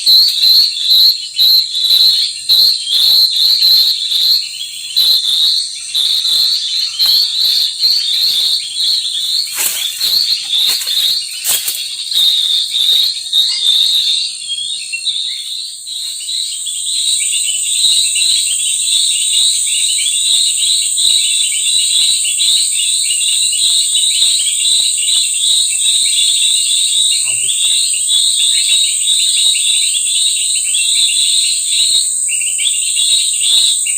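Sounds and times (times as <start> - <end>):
high-pitched bird chirping: 0.0 - 31.6.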